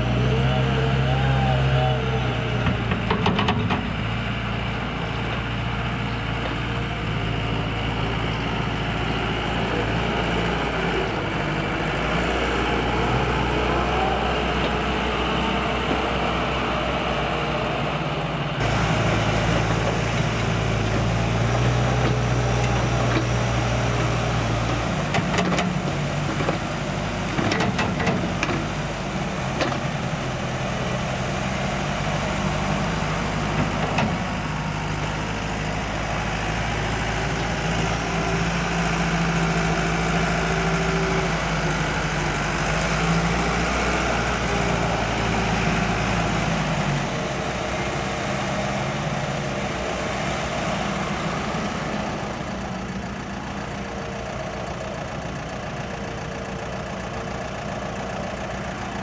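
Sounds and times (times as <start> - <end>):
excavator diesel engine: 0.0 - 59.0
wheel loader diesel engine: 0.0 - 59.0.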